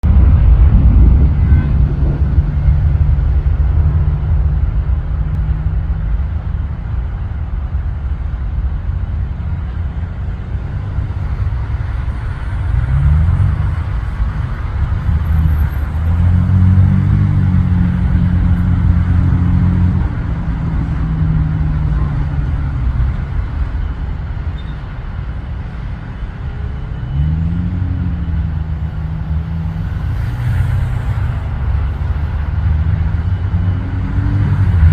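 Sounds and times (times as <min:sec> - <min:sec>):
low engine rumble: 0:00.0 - 0:34.9.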